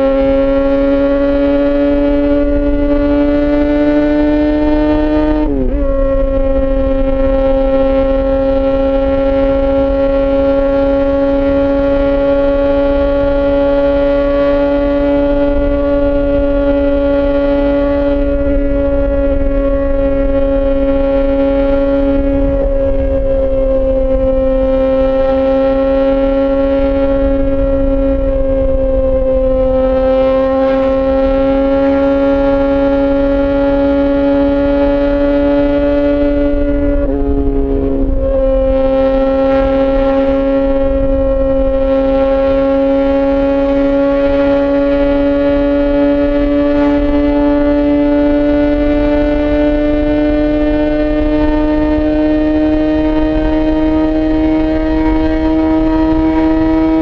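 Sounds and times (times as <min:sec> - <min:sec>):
motorcycle engine at steady revs: 0:00.0 - 0:57.0
wind rumble on microphone: 0:00.0 - 0:57.0.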